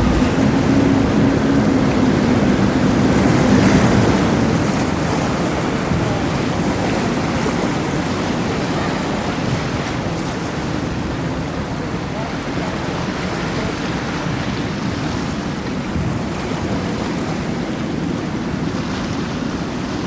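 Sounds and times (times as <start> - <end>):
boat engines droning: 0.0 - 20.0
rush of wake and waves: 0.0 - 20.0
wind on microphone: 0.0 - 20.0.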